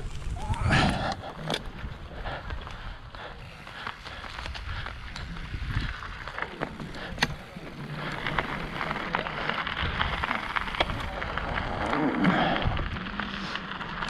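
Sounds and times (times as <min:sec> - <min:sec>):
wind rumble on microphone: 0:00.0 - 0:07.5, 0:08.2 - 0:13.9
bike rattle: 0:00.0 - 0:14.0
bike tyres crunching on gravel: 0:00.0 - 0:14.0.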